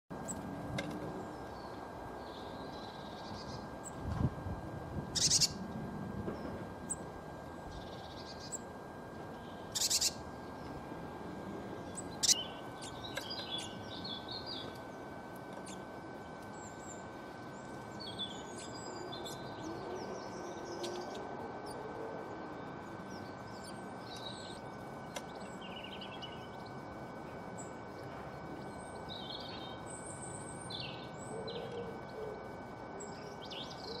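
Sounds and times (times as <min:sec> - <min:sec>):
small birds chirping: 0:00.2 - 0:04.0, 0:05.1 - 0:34.0.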